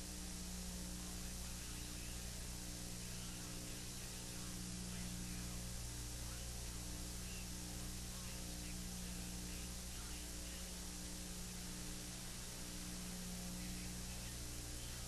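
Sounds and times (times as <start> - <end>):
constant hiss: 0.0 - 15.0
electrical hum: 0.0 - 15.0
faint pulsing high tone: 0.0 - 15.0.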